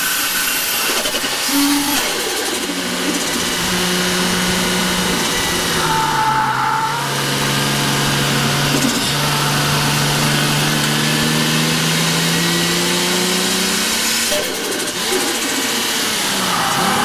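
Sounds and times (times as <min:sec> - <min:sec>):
car engine under load: 0:00.0 - 0:17.0.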